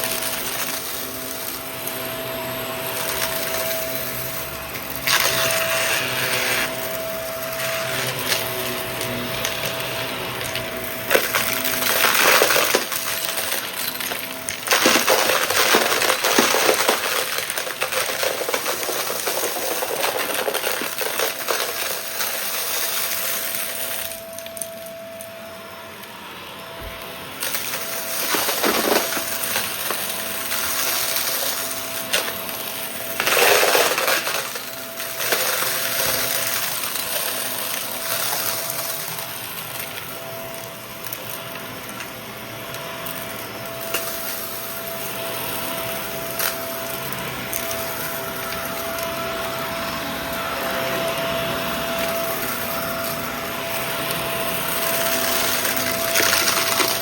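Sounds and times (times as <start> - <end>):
debris crackling and rattling: 0.0 - 25.0, 27.4 - 57.0
vacuum cleaner motor whine: 0.0 - 57.0.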